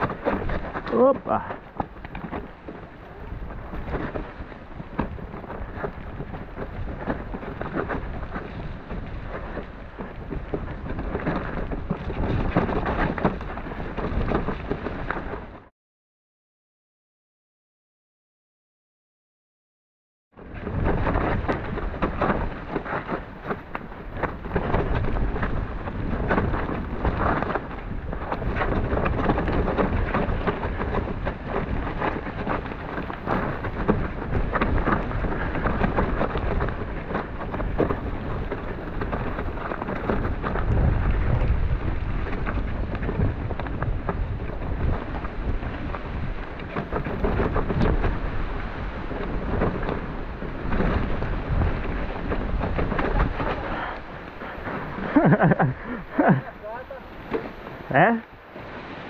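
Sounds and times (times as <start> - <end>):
bike knocking and rattling: 0.0 - 15.7, 20.4 - 58.2
wind and tyres rumbling: 0.0 - 15.7, 20.3 - 59.0.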